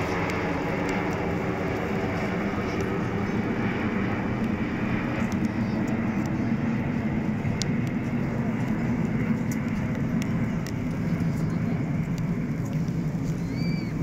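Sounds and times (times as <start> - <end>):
jet roar overhead: 0.0 - 14.0.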